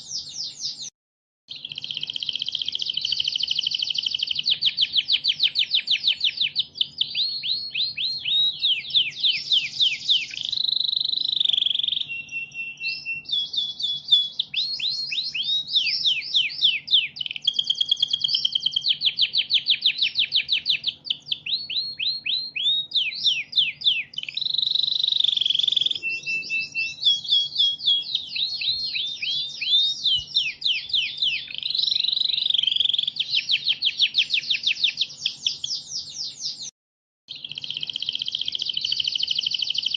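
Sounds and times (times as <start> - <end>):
canary singing trills: 0.0 - 0.9, 1.5 - 36.7, 37.3 - 39.9.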